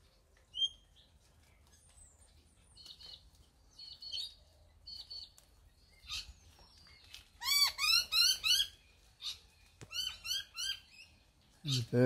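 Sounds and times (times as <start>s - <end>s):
garden birds singing: 0.0s - 12.0s.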